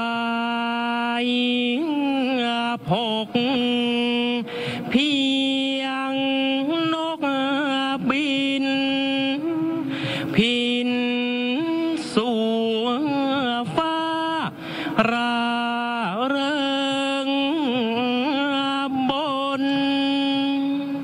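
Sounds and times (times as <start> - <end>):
person chanting unaccompanied: 0.0 - 21.0.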